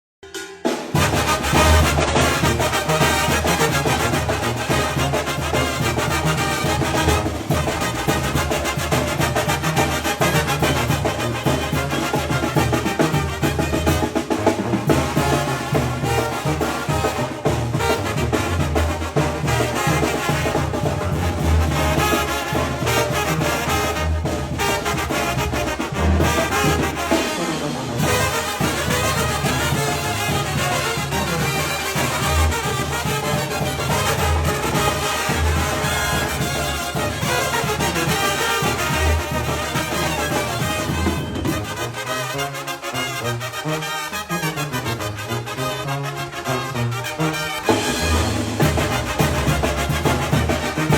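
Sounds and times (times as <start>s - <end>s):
brass band playing: 0.2s - 50.9s.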